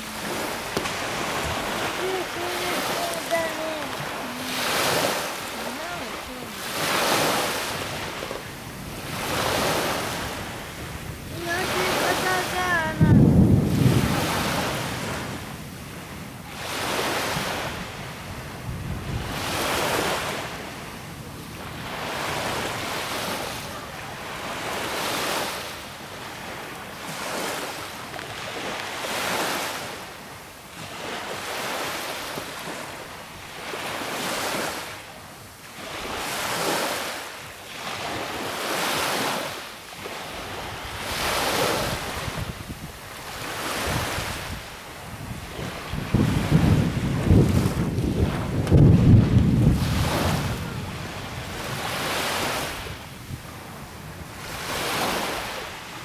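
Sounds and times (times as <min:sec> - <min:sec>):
wind on microphone: 0:00.0 - 0:37.0, 0:37.8 - 0:56.0
waves breaking: 0:00.0 - 0:56.0.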